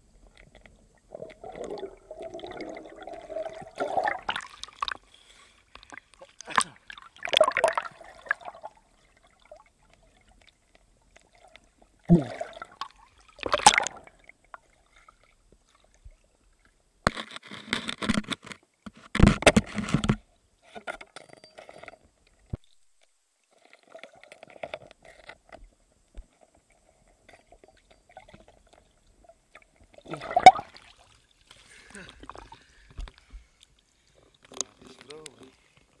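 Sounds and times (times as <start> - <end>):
water sloshing and gurgling: 0.0 - 18.6, 23.4 - 36.0.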